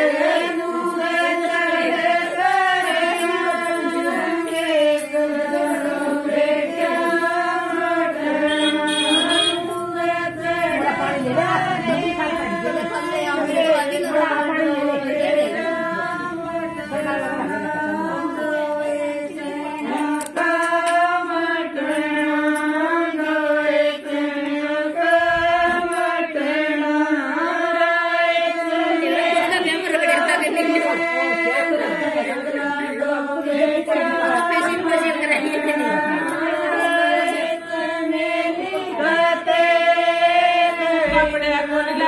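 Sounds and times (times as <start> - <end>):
women singing folk song: 0.0 - 42.0.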